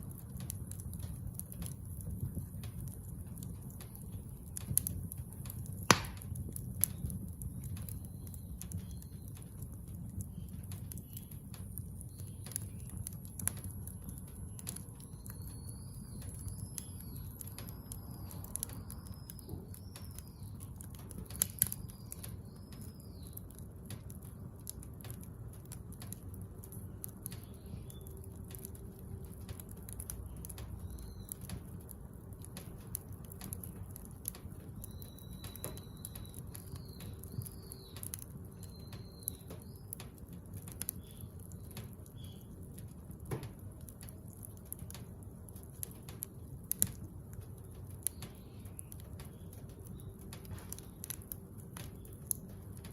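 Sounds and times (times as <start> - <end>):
bonfire crackling and popping: 0.0 - 52.9
low steady rumble: 0.0 - 52.9.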